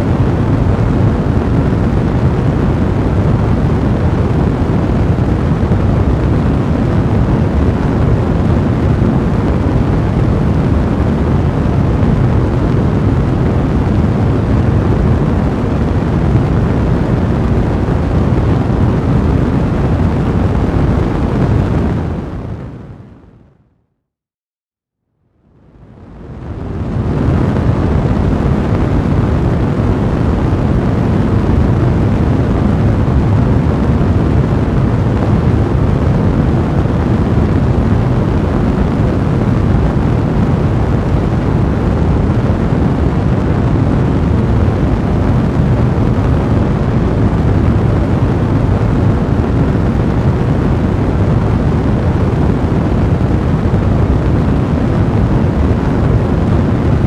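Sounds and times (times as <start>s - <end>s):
fire roaring: 0.0s - 23.0s, 25.7s - 57.0s.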